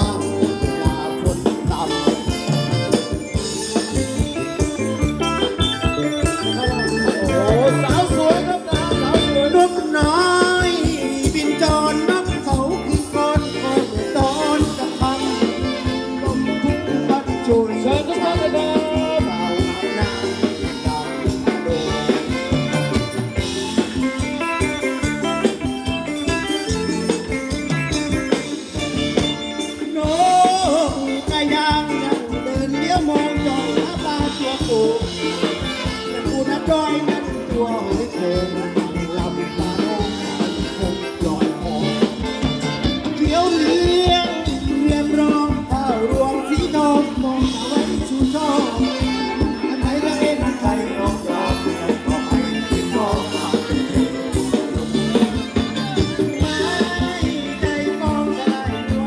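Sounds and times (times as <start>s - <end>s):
drum beat: 0.0s - 59.0s
held instrumental notes: 0.0s - 59.0s
keyboard: 0.0s - 59.0s
person singing: 0.0s - 59.0s.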